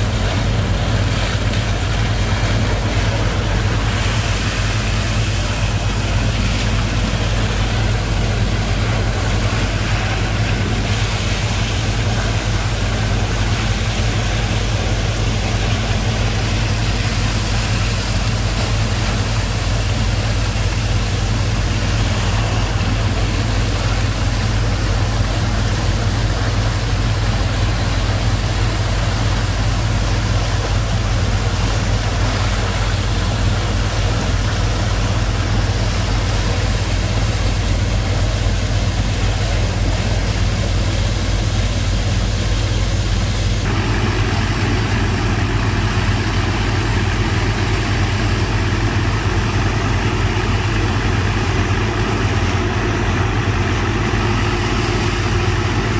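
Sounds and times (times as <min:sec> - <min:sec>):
pump engine low rumble: 0:00.0 - 0:55.9.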